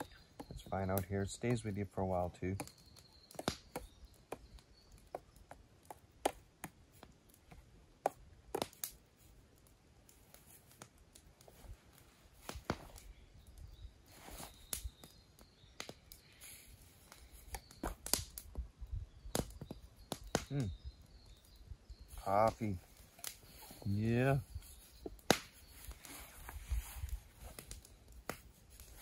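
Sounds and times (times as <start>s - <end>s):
clicks and taps of camp gear: 0.0s - 18.7s, 19.3s - 21.6s, 22.2s - 29.0s.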